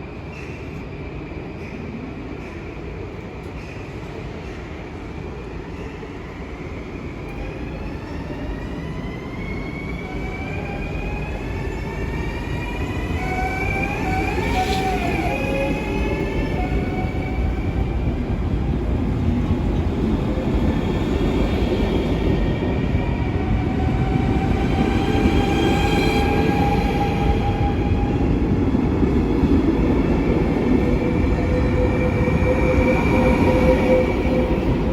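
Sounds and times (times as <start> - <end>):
low train rumble: 0.0 - 34.9.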